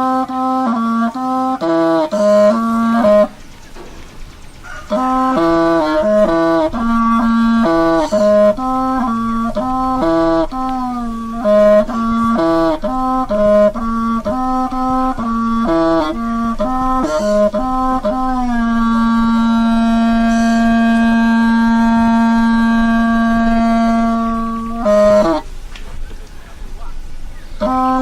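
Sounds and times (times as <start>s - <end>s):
wind instrument playing a tune: 0.0s - 28.0s.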